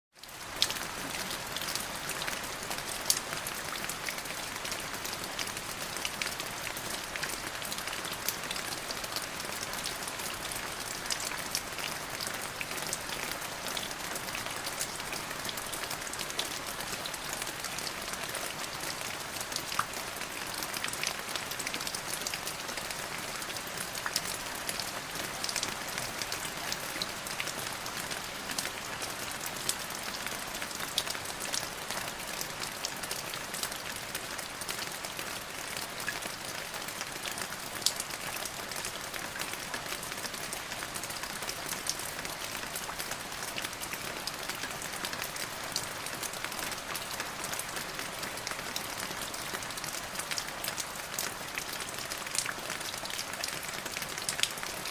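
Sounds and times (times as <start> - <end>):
rain falling: 0.1 - 54.9.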